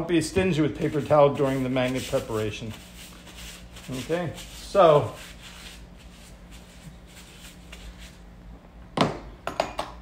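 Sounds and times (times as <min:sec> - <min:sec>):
faint room hum: 0:00.0 - 0:10.0.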